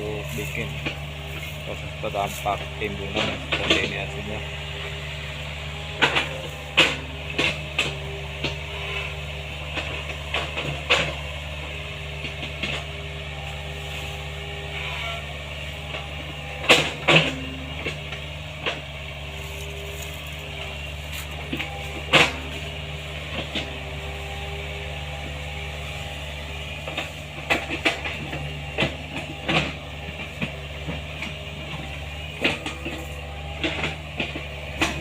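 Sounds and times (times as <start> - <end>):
excavator diesel engine running: 0.0 - 35.0
hydraulic whine: 0.0 - 35.0.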